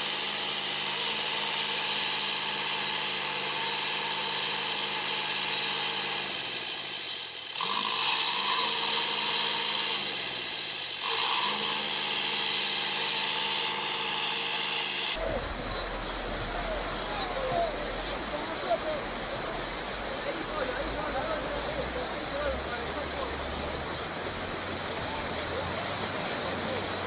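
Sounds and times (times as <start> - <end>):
motor running with high hiss: 0.0 - 27.0.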